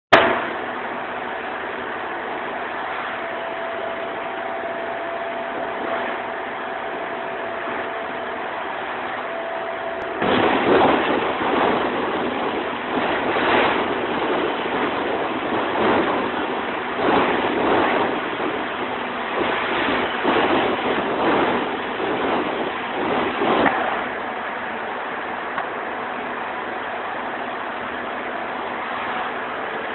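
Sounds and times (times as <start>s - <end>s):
concrete pump machinery running: 0.1s - 29.9s
faint steady whine: 0.1s - 29.9s.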